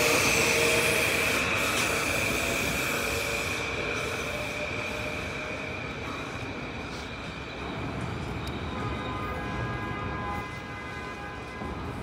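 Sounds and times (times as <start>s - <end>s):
train cars rumbling: 0.0s - 12.0s
train wheels squealing: 0.0s - 12.0s.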